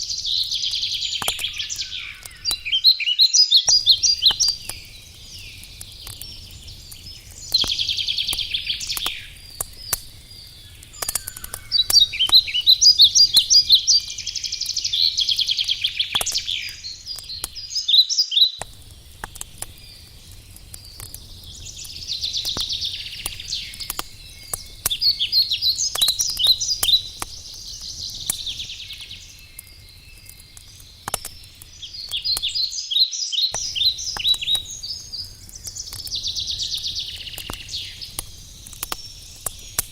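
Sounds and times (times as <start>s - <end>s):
campfire crackling: 0.0s - 2.9s, 3.6s - 39.9s
songbirds singing trilled phrases: 0.0s - 39.9s.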